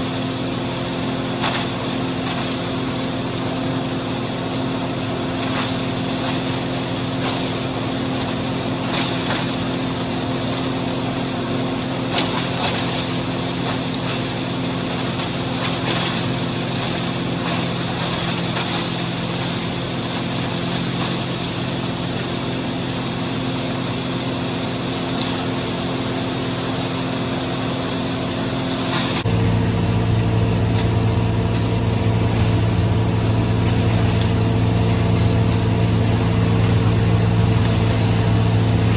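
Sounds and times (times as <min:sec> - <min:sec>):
feed grinder mixer: 0:00.0 - 0:38.9
tractor diesel engine running: 0:00.0 - 0:38.9.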